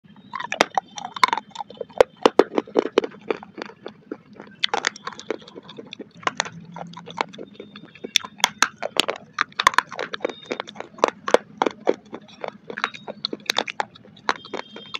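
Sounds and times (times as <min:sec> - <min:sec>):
clay pot being chewed: 0:00.2 - 0:14.9.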